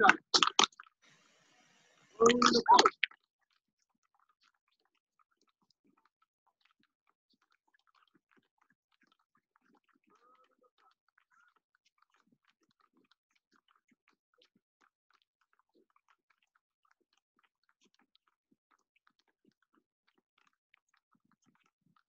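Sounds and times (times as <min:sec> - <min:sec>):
faint crackle and clicks: 0:00.0 - 0:22.0.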